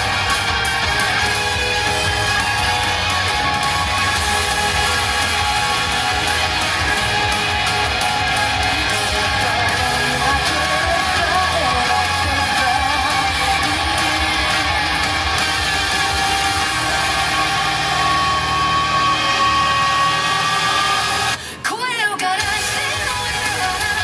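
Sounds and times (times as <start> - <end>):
person singing: 0.0 - 20.5, 21.3 - 24.0
electric guitar: 0.0 - 21.6, 22.2 - 24.0.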